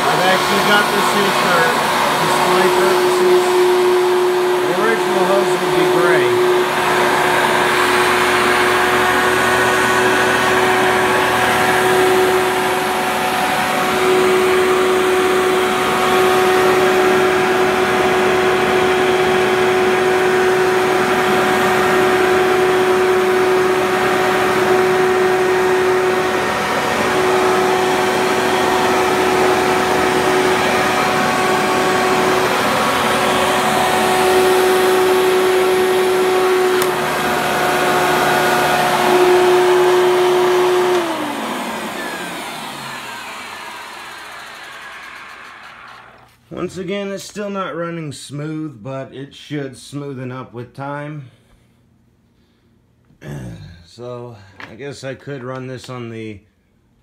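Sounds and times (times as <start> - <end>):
upright vacuum cleaner whining: 0.0 - 46.5.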